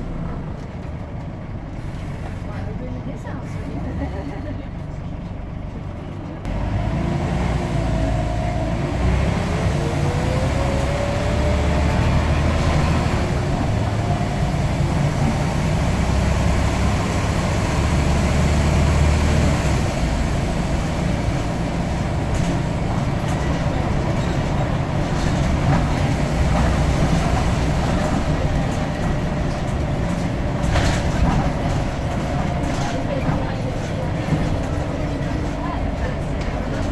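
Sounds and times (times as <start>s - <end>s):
bus engine drone: 0.0s - 36.9s.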